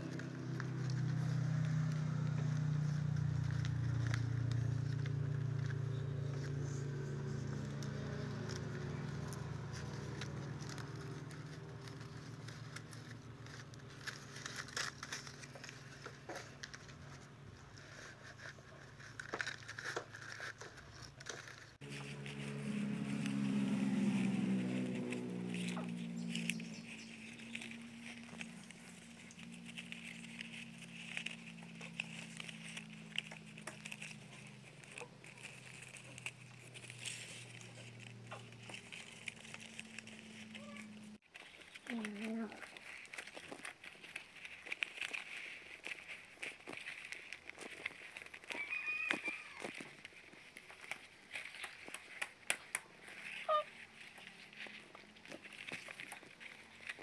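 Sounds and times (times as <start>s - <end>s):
leaves rustling and crackling: 0.0s - 57.0s.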